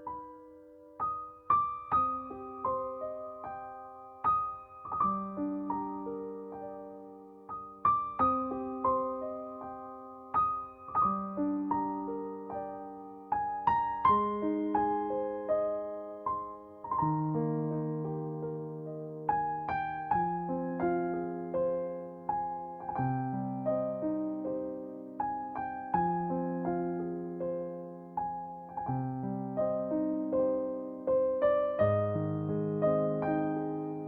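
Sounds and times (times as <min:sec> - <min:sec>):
gentle solo piano: 0:00.0 - 0:34.0.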